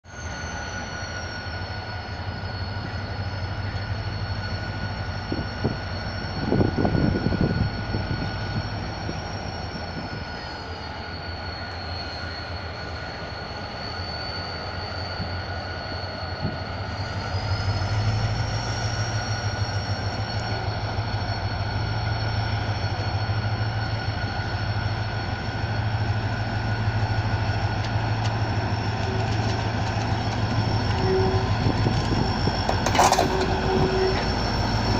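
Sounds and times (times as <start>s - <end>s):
high squealing tones: 0.1s - 34.9s.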